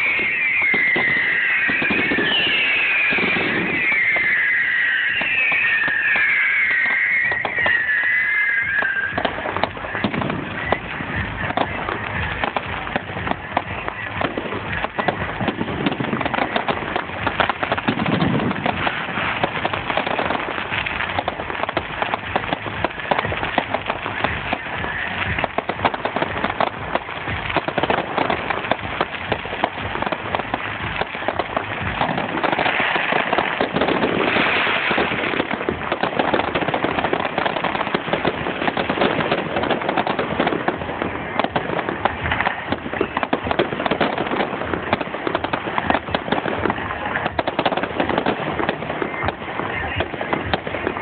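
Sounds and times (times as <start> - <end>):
fireworks cracking and banging: 0.0 - 51.0.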